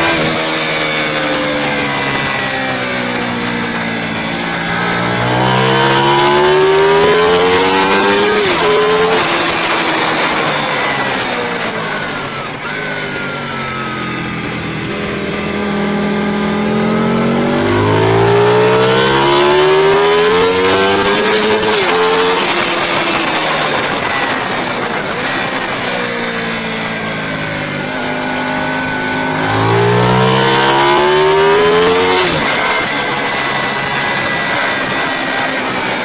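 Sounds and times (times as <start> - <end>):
racing motorcycle engine: 0.0 - 36.0.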